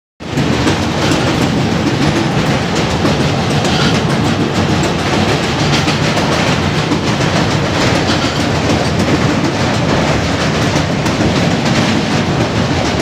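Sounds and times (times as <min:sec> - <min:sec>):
train wheels rumbling on rails: 0:00.2 - 0:13.0.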